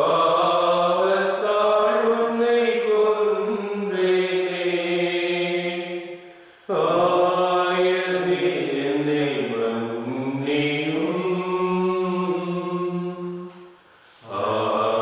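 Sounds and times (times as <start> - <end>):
slow devotional chant: 0.0 - 15.0.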